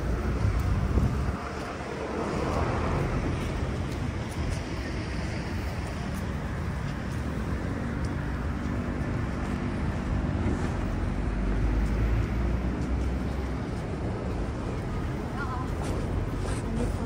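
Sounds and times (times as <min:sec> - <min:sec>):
low rumble of passing vehicles: 0:00.0 - 0:17.0.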